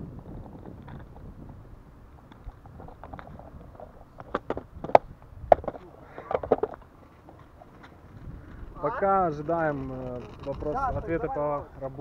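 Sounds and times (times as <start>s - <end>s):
faint wind noise: 0.0s - 12.0s.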